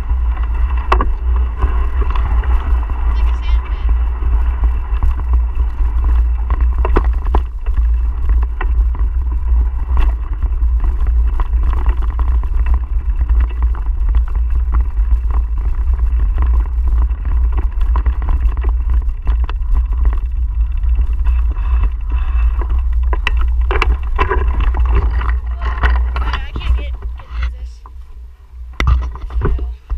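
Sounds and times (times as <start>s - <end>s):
bike rattling over bumps: 0.0s - 29.9s
wind and vibration rumble: 0.0s - 29.9s.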